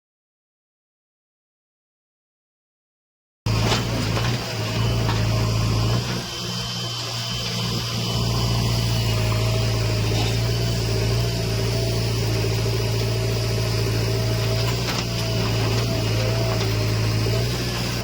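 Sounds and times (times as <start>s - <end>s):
heavy diesel engine running: 3.5s - 18.0s
thin wavering whine: 3.6s - 18.0s.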